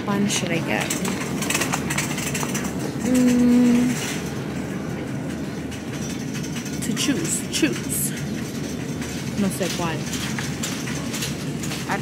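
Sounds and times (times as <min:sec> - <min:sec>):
supermarket clatter and rattle: 0:00.0 - 0:12.0.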